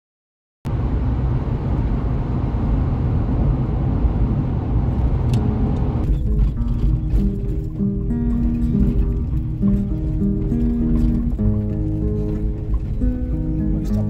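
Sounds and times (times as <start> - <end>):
car engine and road noise: 0.7 - 14.0.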